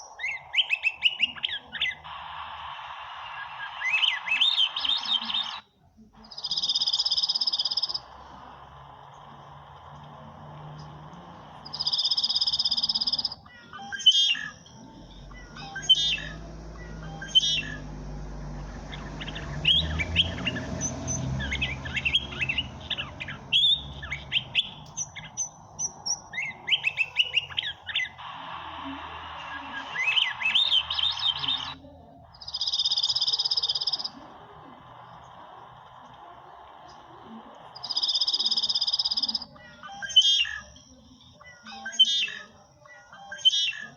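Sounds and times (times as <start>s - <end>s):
high buzzing bird call: 0.0s - 40.8s
birds chirping and singing: 0.0s - 43.9s.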